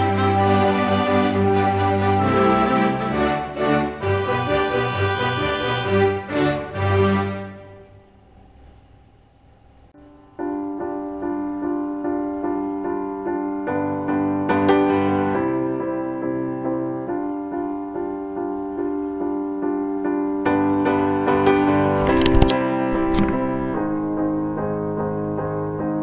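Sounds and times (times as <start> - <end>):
piano-like keyboard melody: 0.0 - 7.8, 10.0 - 26.0.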